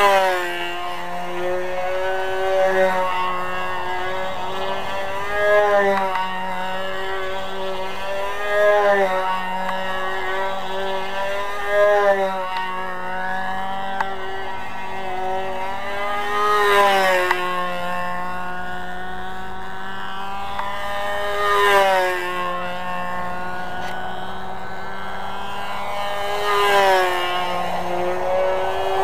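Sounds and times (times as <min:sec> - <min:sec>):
model plane engine buzzing: 0:00.0 - 0:29.0.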